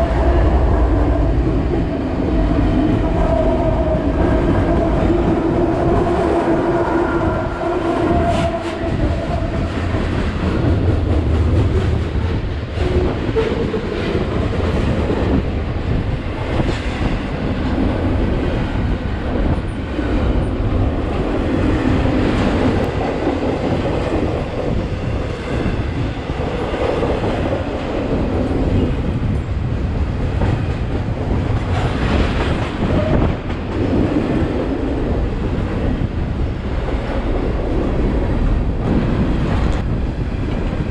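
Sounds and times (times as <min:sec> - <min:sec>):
diesel locomotive engine: 0:00.0 - 0:40.9
train wheels rumbling and clattering: 0:00.0 - 0:40.9.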